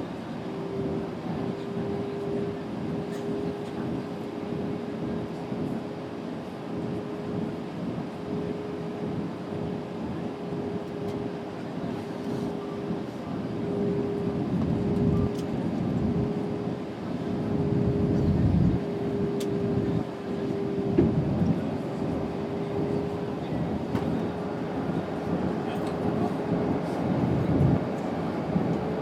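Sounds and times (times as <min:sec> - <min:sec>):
airplane cabin airflow and engine rumble: 0:00.0 - 0:29.0
constant hum: 0:00.0 - 0:29.0.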